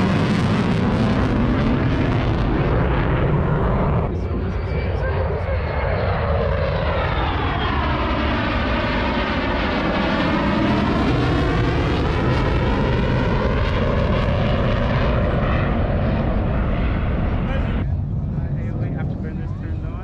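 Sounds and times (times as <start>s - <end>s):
aircraft flying past: 0.0s - 20.0s.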